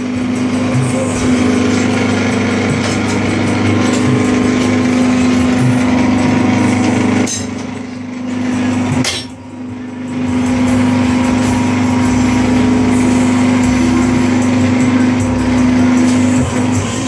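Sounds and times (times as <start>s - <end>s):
hydraulic pump humming: 0.0s - 17.0s.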